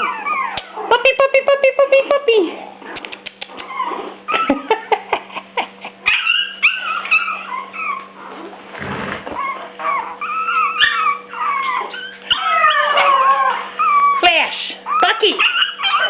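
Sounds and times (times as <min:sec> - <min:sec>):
puppies whining and yipping: 0:00.0 - 0:01.1, 0:02.7 - 0:08.6, 0:09.2 - 0:16.0.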